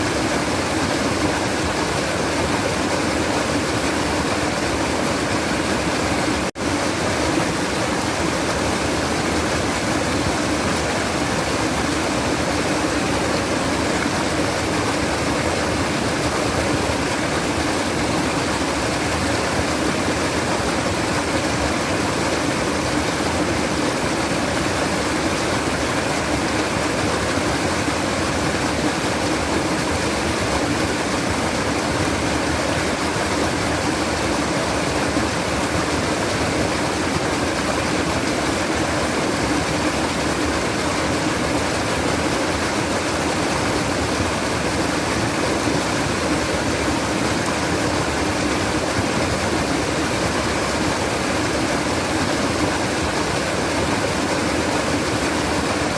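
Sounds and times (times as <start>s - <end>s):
running water babbling: 0.0s - 55.9s.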